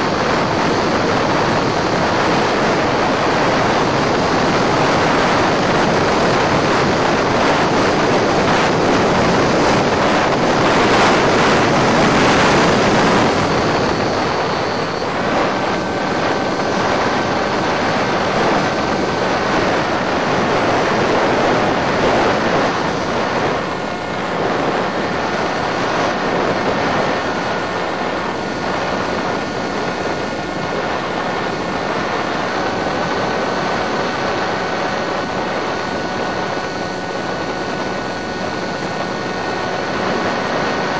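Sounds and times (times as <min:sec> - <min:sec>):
model plane motor: 0:00.0 - 0:40.9
wind rushing: 0:00.0 - 0:40.9.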